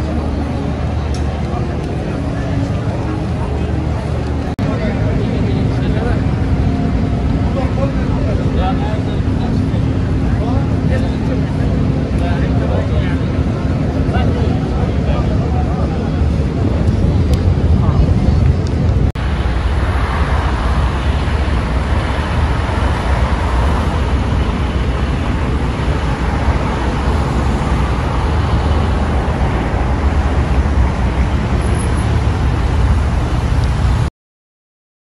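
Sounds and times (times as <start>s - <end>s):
low outdoor rumble: 0.0s - 34.1s.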